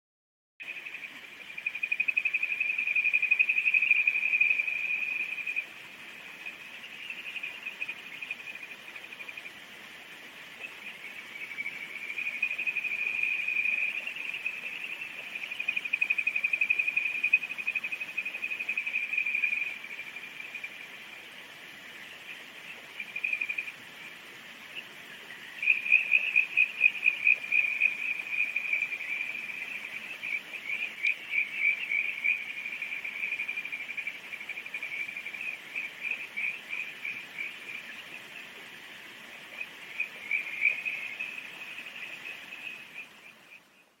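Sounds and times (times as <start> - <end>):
frogs trilling chorus: 0.6 - 44.0.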